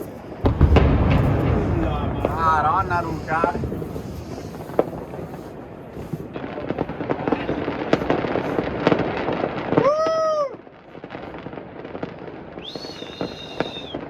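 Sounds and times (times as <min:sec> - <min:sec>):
firecrackers crackling and popping: 0:00.0 - 0:14.0.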